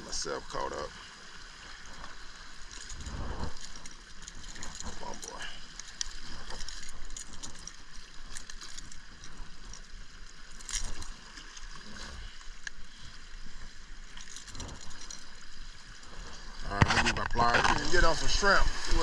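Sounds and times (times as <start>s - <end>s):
water lapping against rocks: 0.0s - 19.0s.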